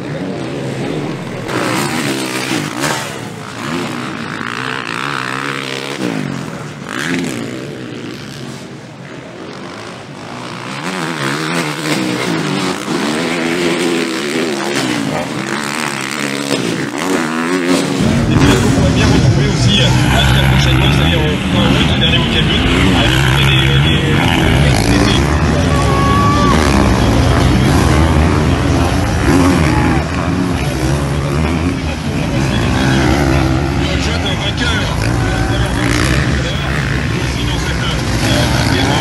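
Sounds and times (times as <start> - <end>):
motocross bikes revving: 0.0 - 39.0.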